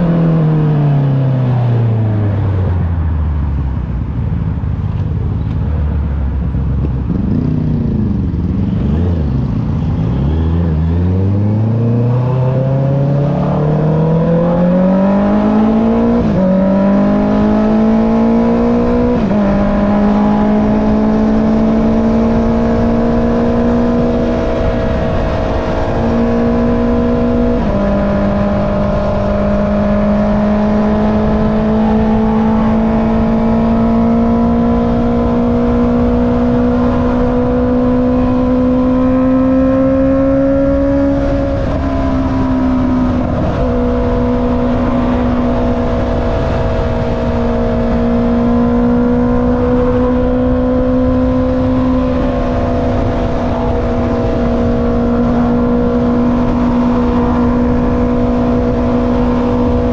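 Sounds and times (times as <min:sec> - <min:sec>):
motorcycle engine revving: 0:04.5 - 0:59.9.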